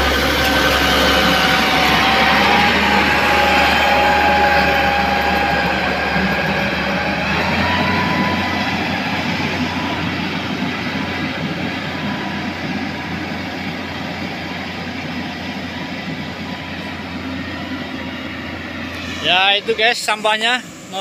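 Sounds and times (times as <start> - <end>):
diesel engine with rattly clatter: 0.0 - 21.0.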